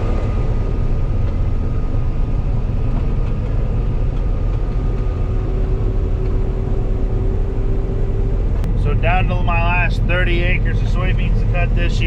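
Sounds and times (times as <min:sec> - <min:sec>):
combine harvester engine drone: 0:00.0 - 0:12.0
faint whine: 0:00.0 - 0:12.0.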